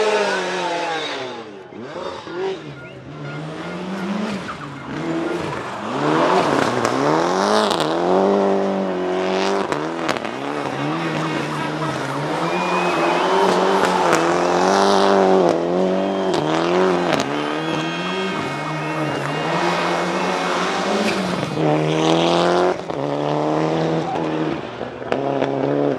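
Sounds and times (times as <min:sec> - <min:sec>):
rally car engine revving: 0:00.0 - 0:25.9.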